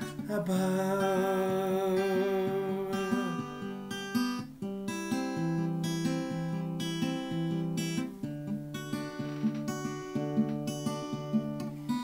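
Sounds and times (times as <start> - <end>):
finger-picked acoustic guitar: 0.0 - 12.0.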